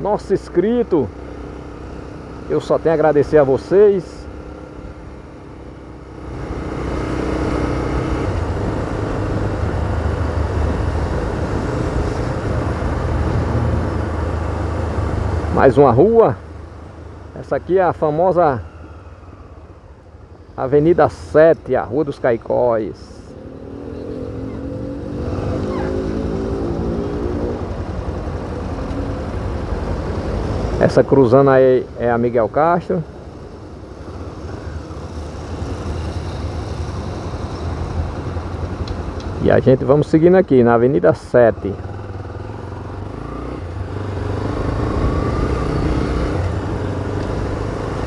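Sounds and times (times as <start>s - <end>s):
vehicle road and wind noise: 0.0s - 48.0s.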